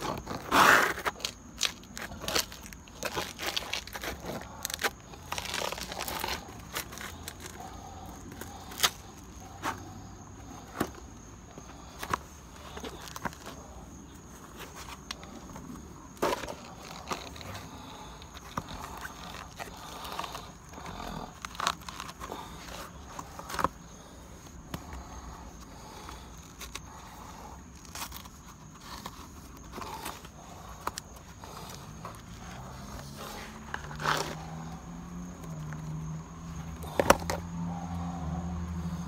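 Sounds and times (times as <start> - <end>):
rubber sole scraping on concrete: 0.0 - 36.0.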